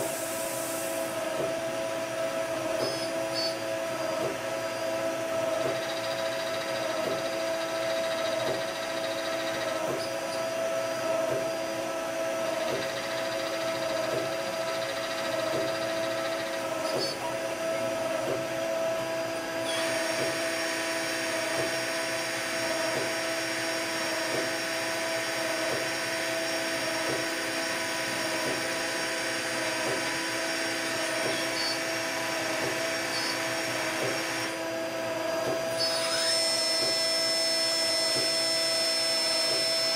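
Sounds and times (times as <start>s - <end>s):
machine hum with whining tones: 0.0s - 39.9s.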